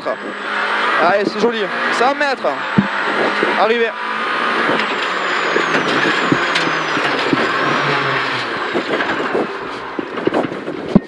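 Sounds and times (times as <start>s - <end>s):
high whine falling in pitch: 0.0s - 9.7s
car engine and road noise: 0.0s - 11.0s.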